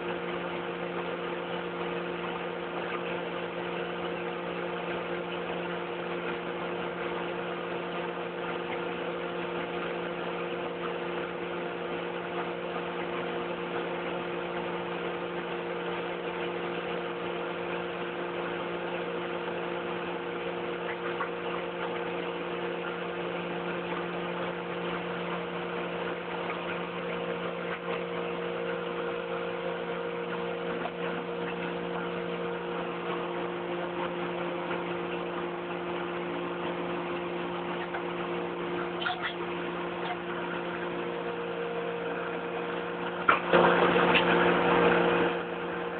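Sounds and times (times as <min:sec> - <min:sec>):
drilling rig machinery drone: 0:00.0 - 0:45.9.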